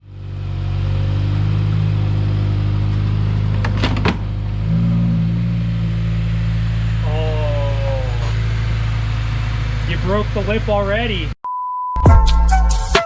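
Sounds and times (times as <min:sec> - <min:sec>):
car engine running: 0:00.0 - 0:11.4.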